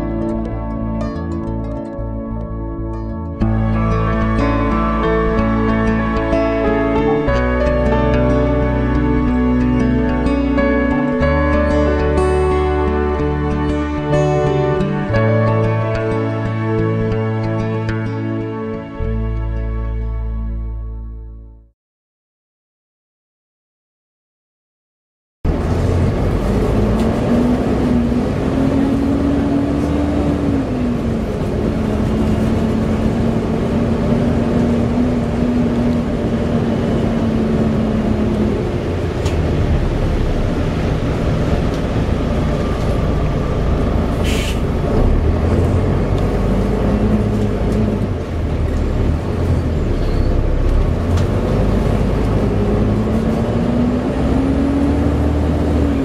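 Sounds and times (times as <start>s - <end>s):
bus engine drone with whine: 0.0s - 21.3s, 25.5s - 56.0s.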